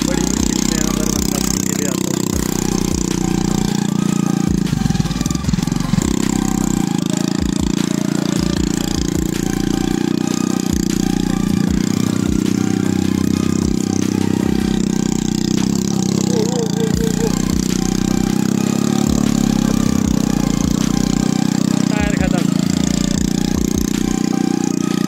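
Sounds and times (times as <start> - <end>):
scooter engine running: 0.0 - 25.0.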